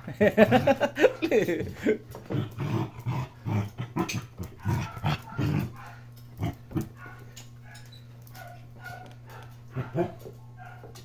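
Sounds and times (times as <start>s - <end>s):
dogs growling and yipping: 0.2s - 10.9s.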